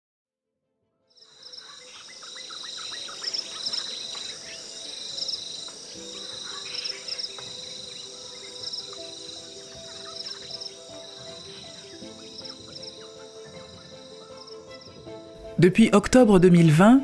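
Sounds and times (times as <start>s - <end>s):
insects chorus: 1.2s - 15.4s
pulsing insect trills: 1.2s - 15.4s.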